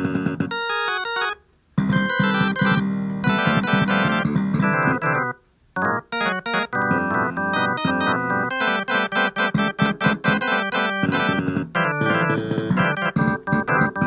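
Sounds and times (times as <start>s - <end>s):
keyboard music with organ tones: 0.0s - 14.0s.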